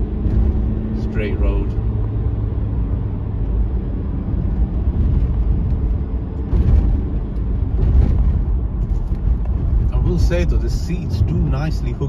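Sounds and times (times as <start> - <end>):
car engine running: 0.0 - 12.0
road and tyre noise: 0.0 - 12.0.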